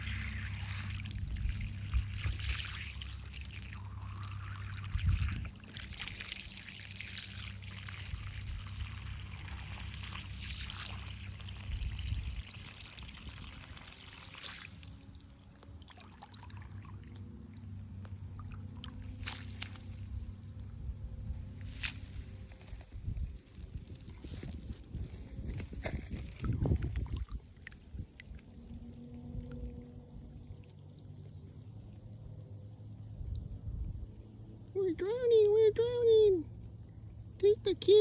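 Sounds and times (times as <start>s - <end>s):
water pouring and trickling: 0.0s - 20.6s, 21.6s - 35.4s.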